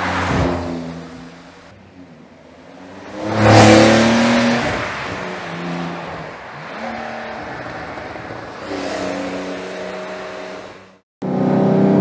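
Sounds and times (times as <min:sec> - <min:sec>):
sports car passing at speed: 0:02.0 - 0:12.0.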